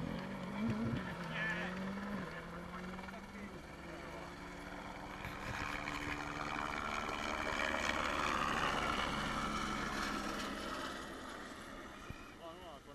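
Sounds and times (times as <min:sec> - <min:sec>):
helicopter flying low overhead: 0:00.0 - 0:12.9.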